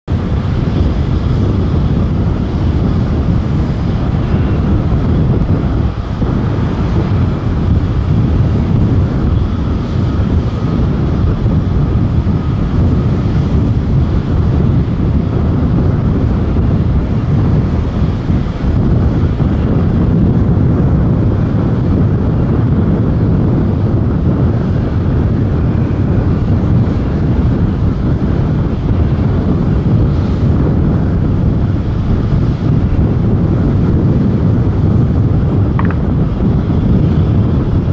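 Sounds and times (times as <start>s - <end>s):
distant jet engines rumbling: 0.1s - 37.9s.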